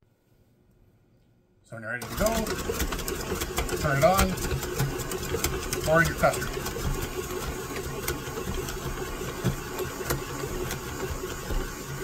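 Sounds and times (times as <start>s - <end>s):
stand mixer motor running: 2.0s - 12.0s.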